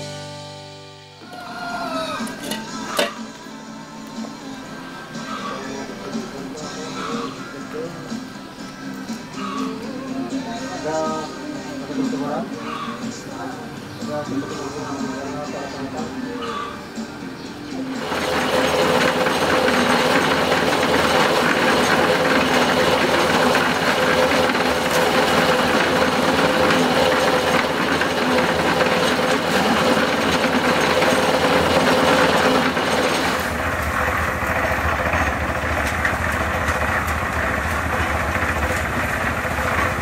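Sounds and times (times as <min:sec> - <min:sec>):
concrete mixer engine humming: 0:01.2 - 0:40.0.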